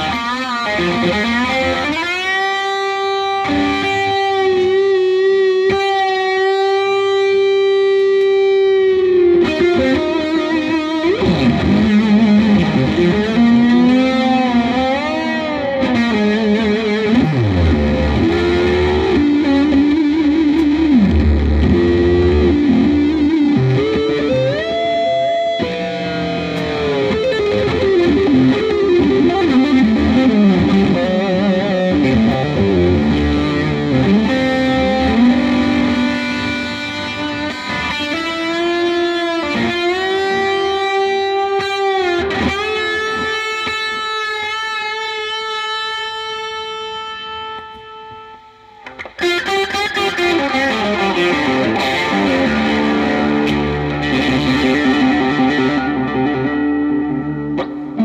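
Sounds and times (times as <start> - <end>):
distorted electric guitar lead: 0.0 - 58.0.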